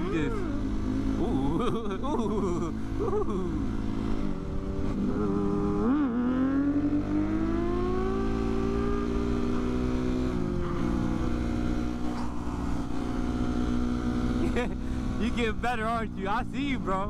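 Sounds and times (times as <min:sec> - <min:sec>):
motorcycle engine accelerating: 0:00.0 - 0:17.0
wind and road noise: 0:00.0 - 0:17.0.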